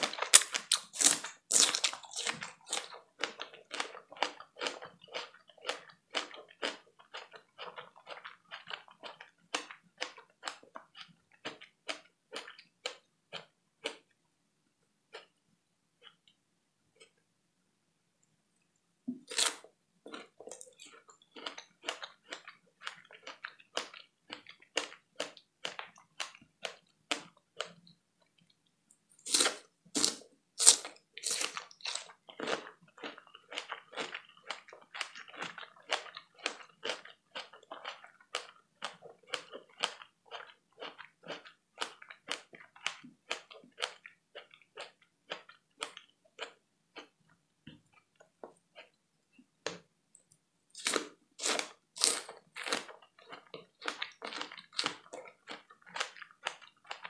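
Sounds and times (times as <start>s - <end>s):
chewing strawberries: 0.0s - 14.1s, 19.2s - 28.5s, 29.2s - 49.0s, 50.8s - 57.0s.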